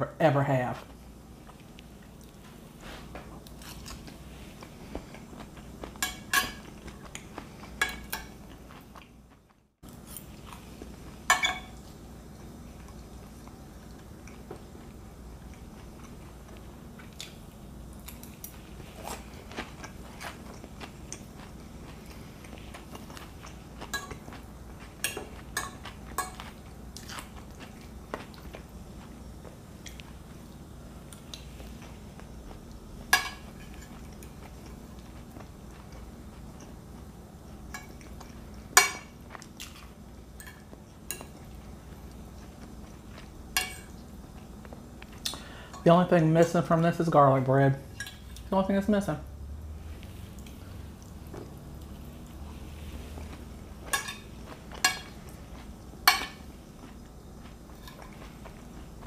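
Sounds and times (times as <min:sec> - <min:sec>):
faint low hum: 0:00.0 - 0:59.0
person chewing: 0:01.4 - 0:45.8, 0:49.9 - 0:59.0.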